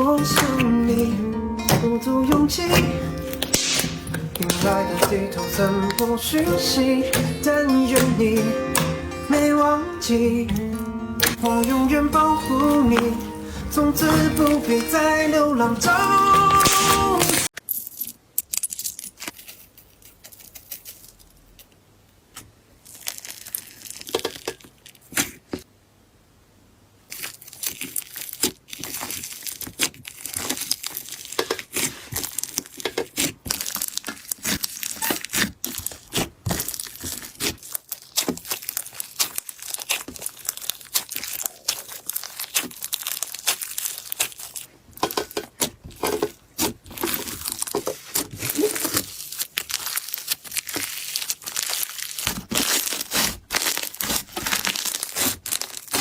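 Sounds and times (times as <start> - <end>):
slime crackling and popping: 0.0 - 9.0, 10.5 - 17.5, 22.8 - 25.5, 27.0 - 56.0.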